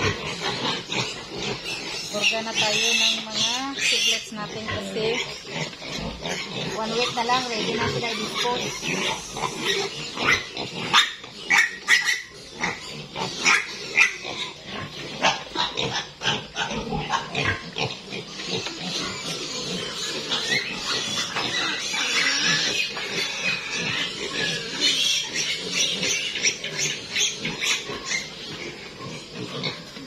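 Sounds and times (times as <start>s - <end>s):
piglets squealing and grunting: 0.0s - 30.0s.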